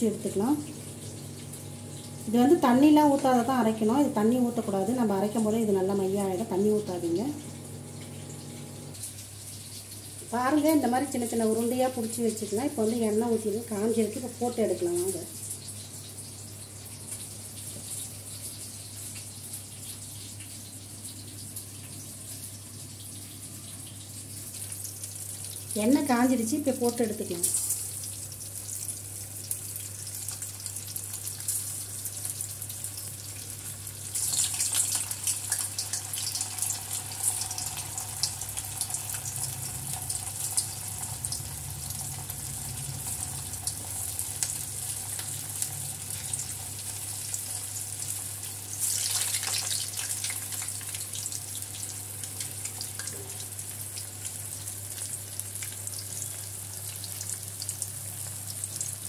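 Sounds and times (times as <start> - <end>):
deep-frying sizzle: 0.0 - 59.0.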